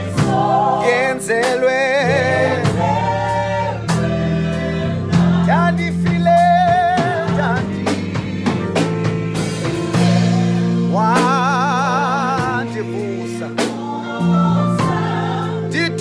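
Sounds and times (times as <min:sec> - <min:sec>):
drum kit: 0:00.0 - 0:16.0
electric keyboard: 0:00.0 - 0:16.0.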